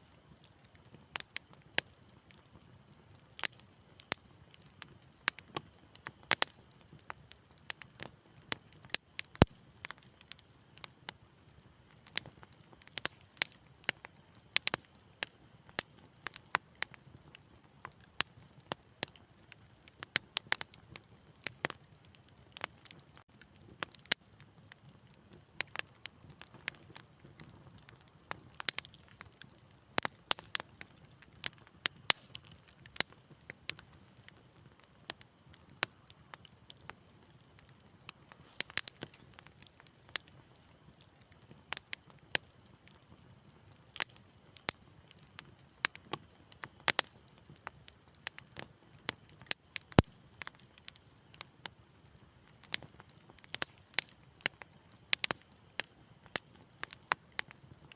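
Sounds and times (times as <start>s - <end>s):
fire popping and snapping: 0.0s - 57.9s
low rumble of flame: 0.0s - 57.9s.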